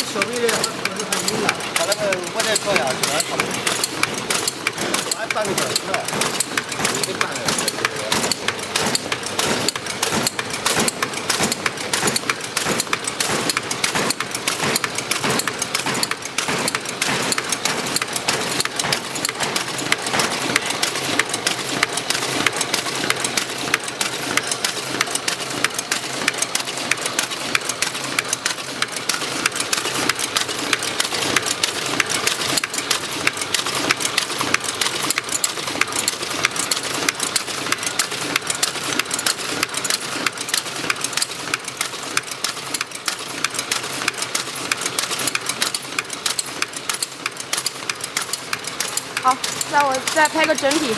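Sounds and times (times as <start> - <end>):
packaging machine clattering: 0.0 - 50.9.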